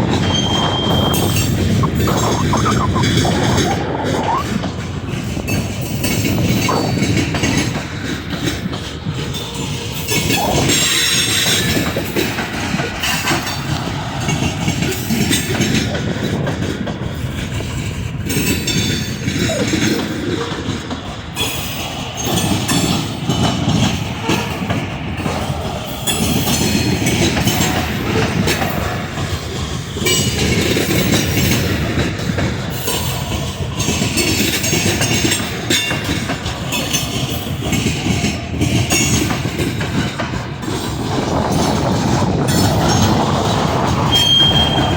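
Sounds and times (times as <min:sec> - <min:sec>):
train wheels clattering on rails: 0:04.6 - 0:44.9.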